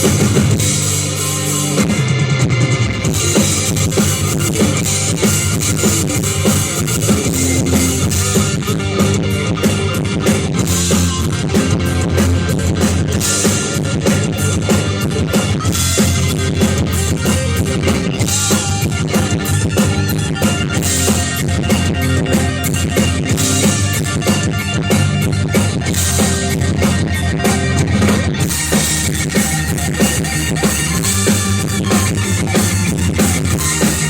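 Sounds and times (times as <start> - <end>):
drum kit beat: 0.0 - 34.0
rock band playing: 0.0 - 34.0.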